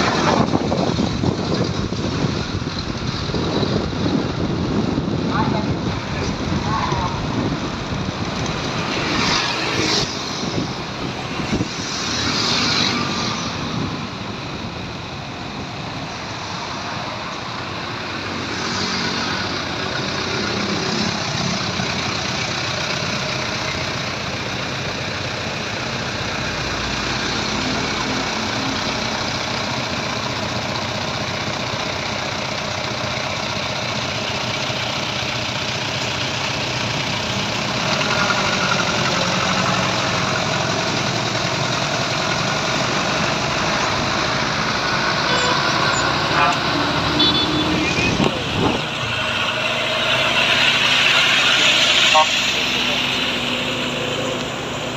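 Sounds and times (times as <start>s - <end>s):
road noise: 0.0s - 54.9s
truck engine running: 0.0s - 54.9s.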